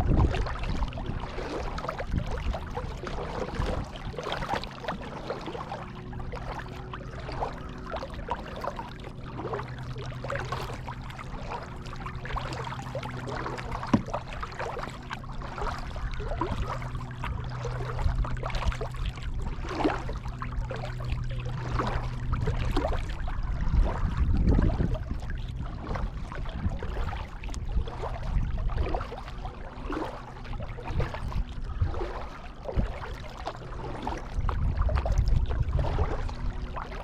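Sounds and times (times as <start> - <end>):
paddle splashing in water: 0.0 - 37.0
steady low hum: 0.0 - 37.0.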